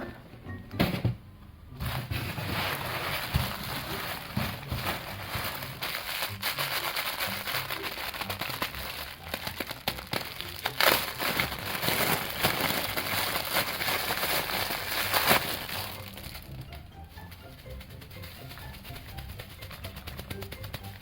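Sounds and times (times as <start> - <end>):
plastic packaging crinkling: 1.9 - 21.0.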